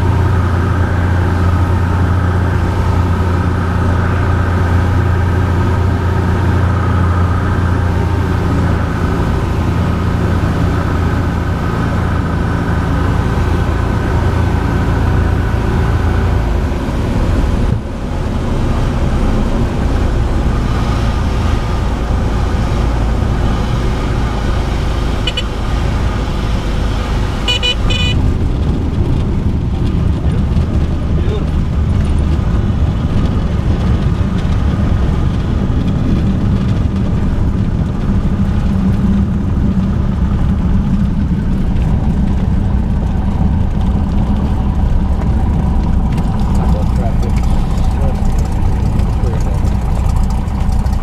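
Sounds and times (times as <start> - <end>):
light plane engine and propeller: 0.0 - 51.0.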